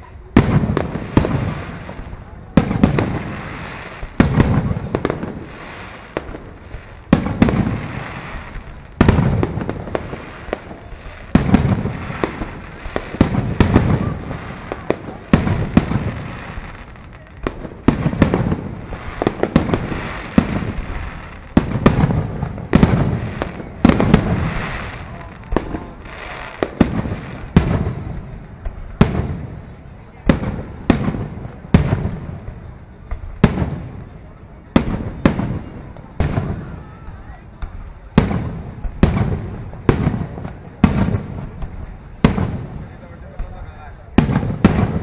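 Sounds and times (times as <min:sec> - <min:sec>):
small firework pops: 0:00.0 - 0:45.0.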